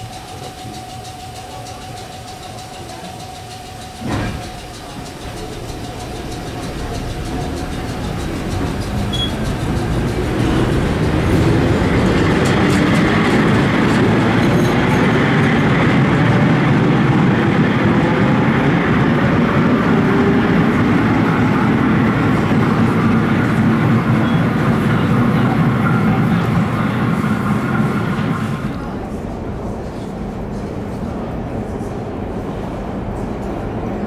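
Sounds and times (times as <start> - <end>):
clicks of train wheels: 0.0 - 29.0
subway train on rails: 0.0 - 34.0.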